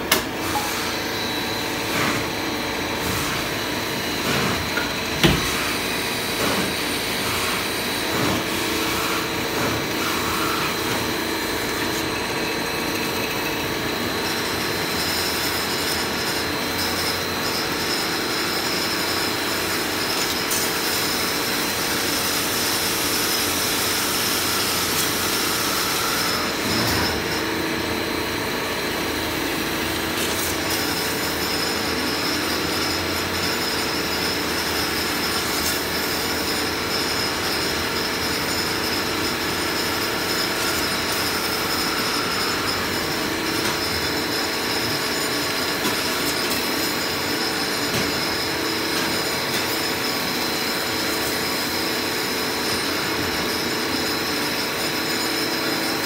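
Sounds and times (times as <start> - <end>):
metal spinning lathe whirring: 0.0 - 56.0.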